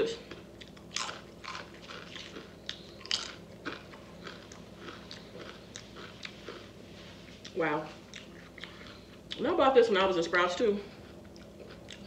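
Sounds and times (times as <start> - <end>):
chewing crunchy potato chips: 0.1 - 9.5, 10.9 - 12.0.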